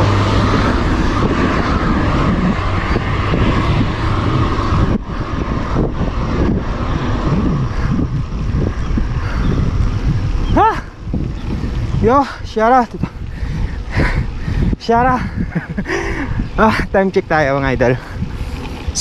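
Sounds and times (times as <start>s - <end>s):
van engine hum: 0.0s - 19.0s
wind rushing over microphone: 0.0s - 19.0s.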